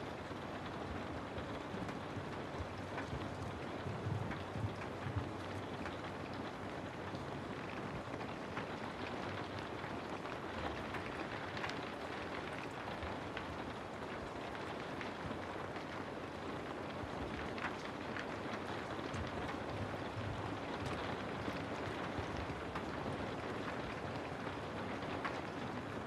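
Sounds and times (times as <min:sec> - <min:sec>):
raindrops ticking: 0:00.1 - 0:26.0.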